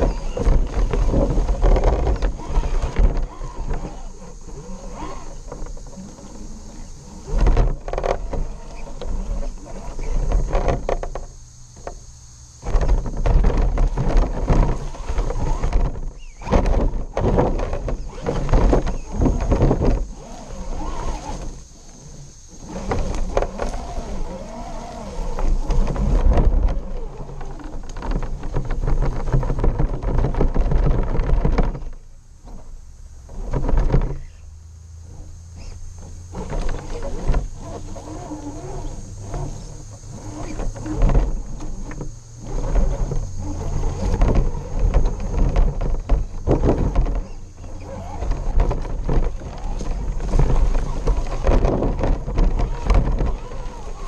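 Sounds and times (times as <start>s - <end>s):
knocks and rattles: 0.0s - 12.0s, 12.6s - 34.3s, 35.1s - 54.0s
toy car motor whining: 0.0s - 12.0s, 13.8s - 28.0s, 35.5s - 45.6s, 46.2s - 54.0s.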